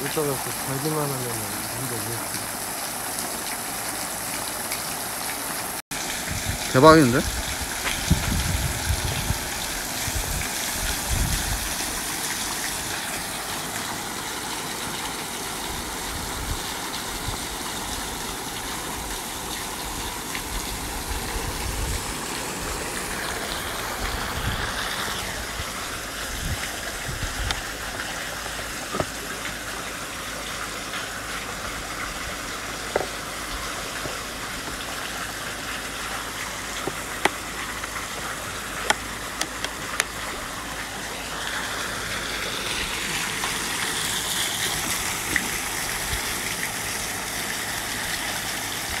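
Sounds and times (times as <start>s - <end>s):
water jet spattering from hose: 0.0s - 49.0s.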